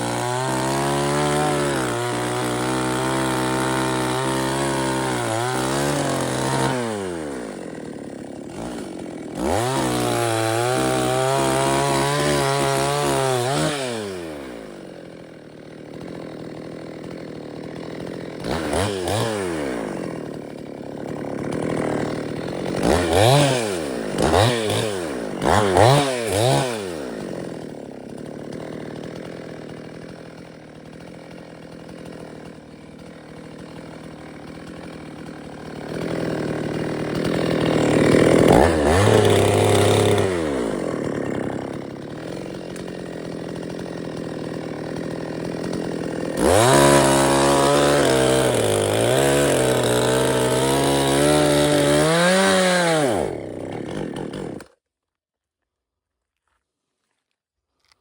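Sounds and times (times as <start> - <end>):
chainsaw revving and idling: 0.0 - 54.8.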